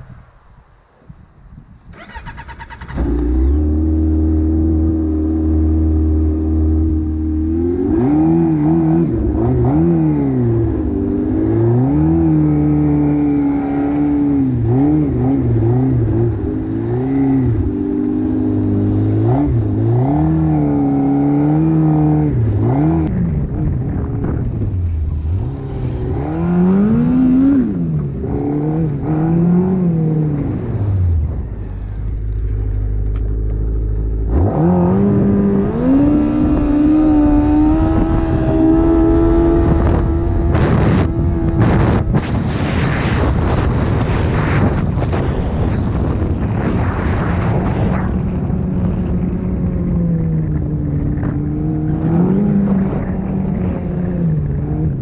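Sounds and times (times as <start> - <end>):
snowmobile engine: 2.0 - 55.0.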